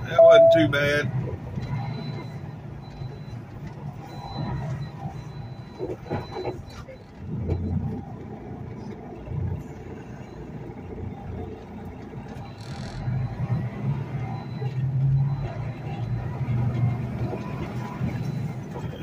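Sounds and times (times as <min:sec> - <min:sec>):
diesel truck engine accelerating: 0:00.0 - 0:19.0.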